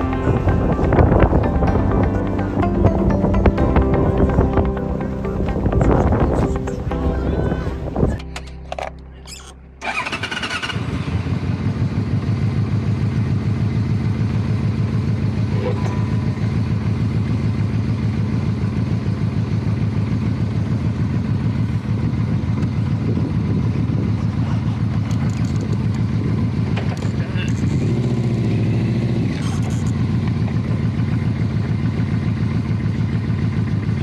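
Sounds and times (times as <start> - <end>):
motorcycle engine starting and running: 0.0 - 34.0.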